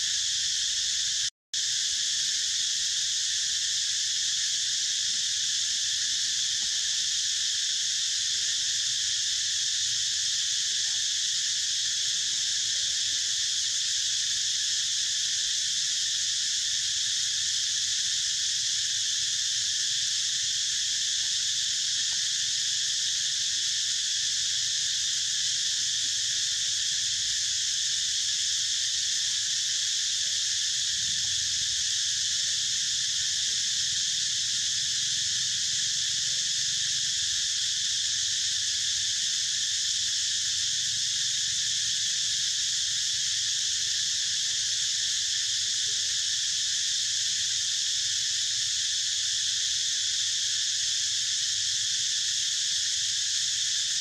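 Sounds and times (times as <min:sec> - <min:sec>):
insects chorus droning: 0:00.0 - 0:54.0.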